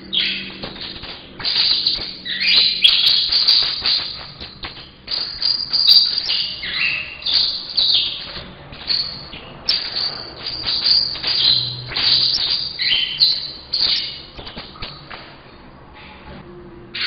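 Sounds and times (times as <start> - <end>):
finch singing buzzy trills: 0.0 - 15.2.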